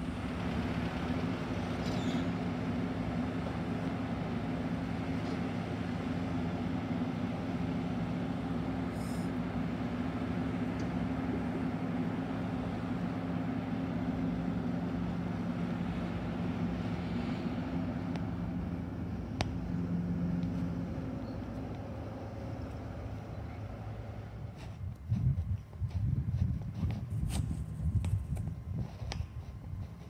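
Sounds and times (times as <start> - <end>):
low machinery hum: 0.0 - 30.0.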